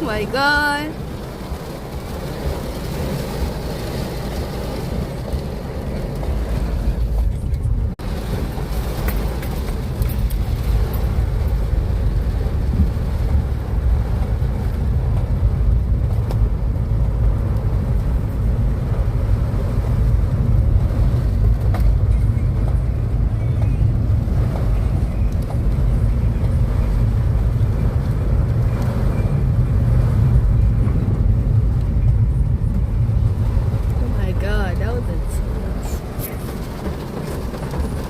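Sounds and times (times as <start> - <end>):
storm wind buffeting microphone: 0.0 - 38.0.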